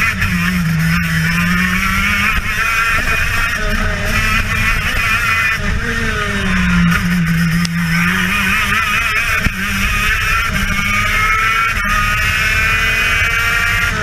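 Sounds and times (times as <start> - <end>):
two-stroke kart engine revving: 0.0 - 14.0.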